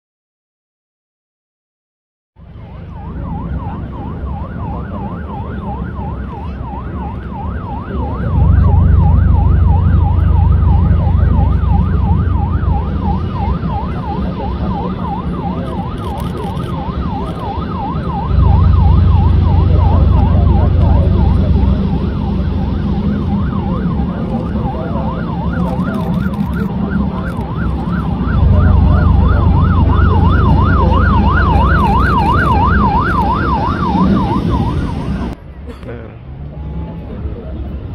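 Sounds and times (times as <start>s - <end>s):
heavy low rumble: 2.4s - 37.9s
boat siren yelping: 2.6s - 35.4s.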